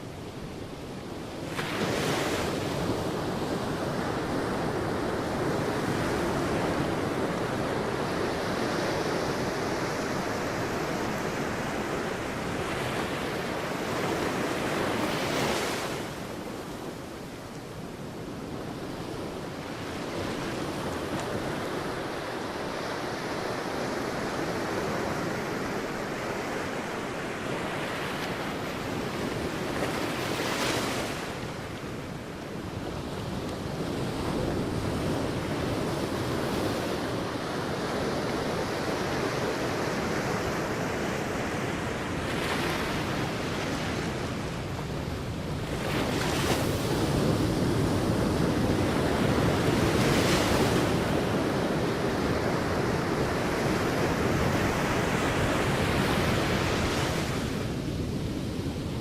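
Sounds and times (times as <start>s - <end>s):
sea waves breaking on beach: 0.4s - 59.0s.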